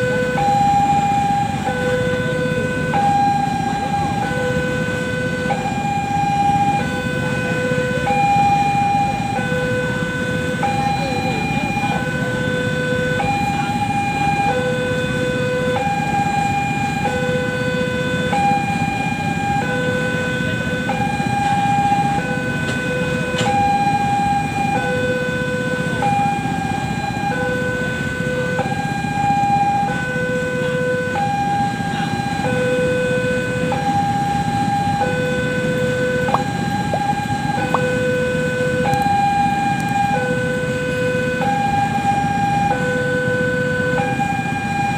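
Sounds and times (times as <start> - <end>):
level crossing two-tone alarm: 0.0 - 44.9.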